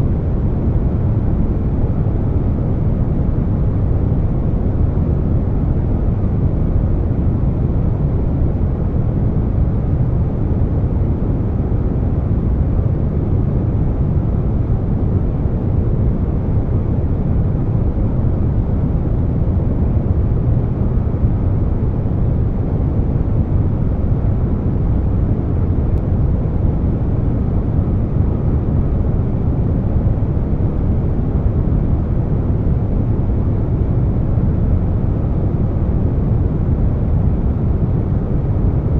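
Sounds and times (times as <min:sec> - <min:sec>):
air conditioner running: 0:00.0 - 0:38.9.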